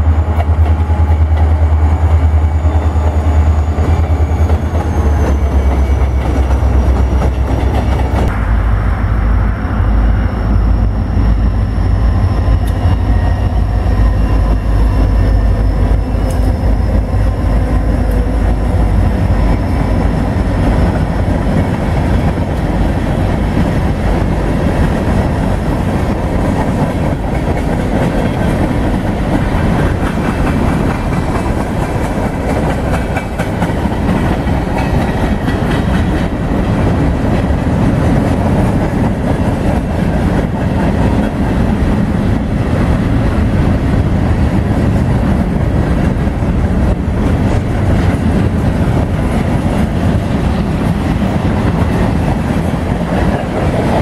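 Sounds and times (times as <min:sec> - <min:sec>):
freight cars rumbling over rails: 0:00.0 - 0:54.0
locomotive engines droning: 0:00.0 - 0:54.0.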